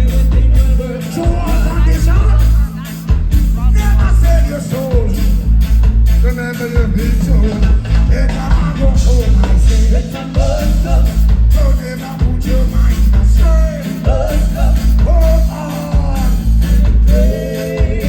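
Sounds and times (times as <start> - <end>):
person singing: 0.0 - 5.4, 6.1 - 18.0
pulsing bass line: 0.0 - 18.0
reggae band playing: 0.0 - 18.0.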